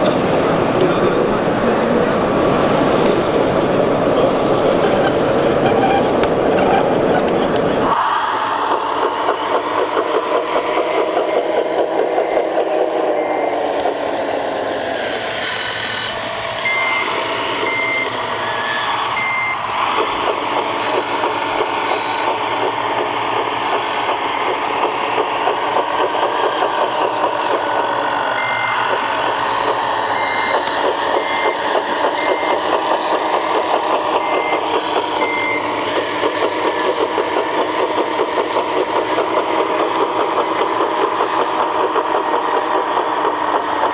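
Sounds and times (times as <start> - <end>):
electric motor whirring: 7.8 - 43.9
reversing alarm beeps: 7.8 - 43.9.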